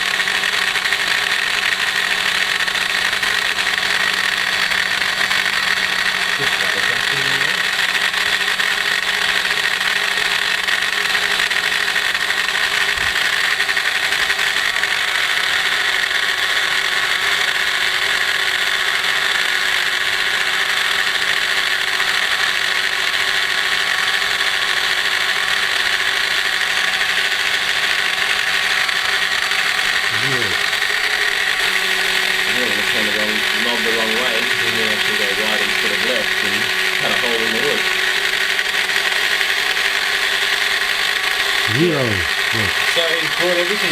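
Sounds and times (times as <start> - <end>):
milling machine cutting wood: 0.0 - 43.9.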